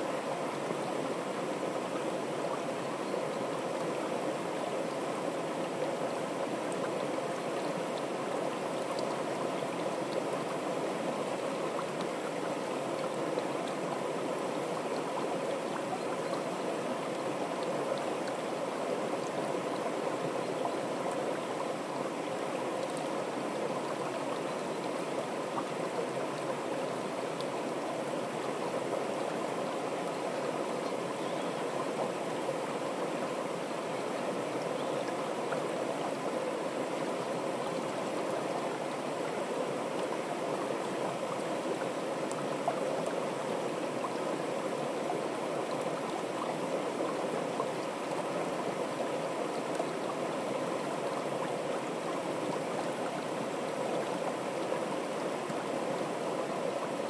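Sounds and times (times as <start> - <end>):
stream rushing down channel: 0.0 - 57.0.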